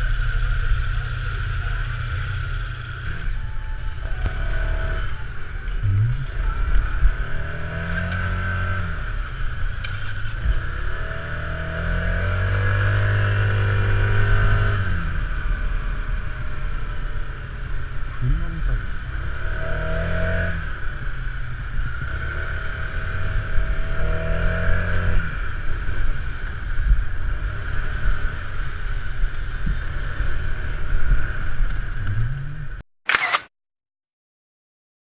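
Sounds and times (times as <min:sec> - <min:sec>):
motorcycle engine accelerating: 0:00.0 - 0:32.8.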